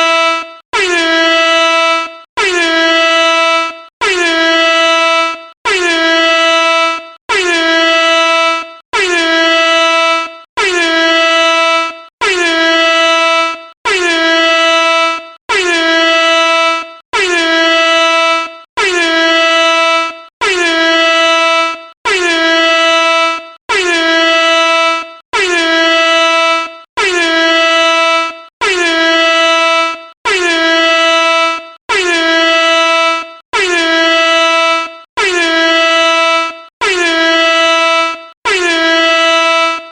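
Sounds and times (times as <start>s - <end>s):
air horn blasts: 0.0s - 39.9s.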